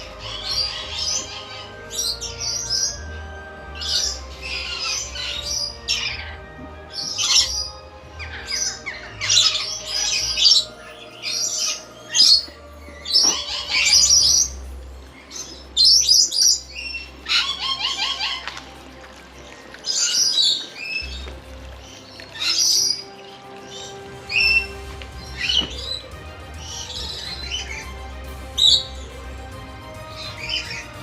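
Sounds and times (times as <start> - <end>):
long rasping bird call: 0.0 - 19.0, 19.7 - 31.0
birds squawking and chirping: 0.0 - 31.0.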